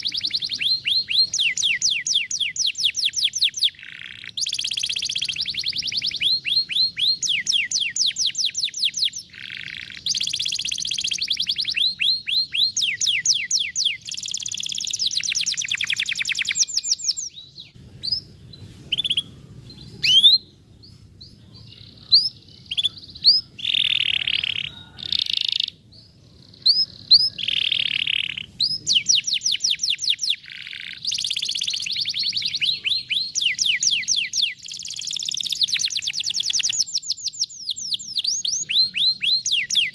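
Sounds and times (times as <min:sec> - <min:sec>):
canary trilling: 0:00.0 - 0:20.5, 0:21.5 - 0:39.9
single bird chirps: 0:00.0 - 0:39.9.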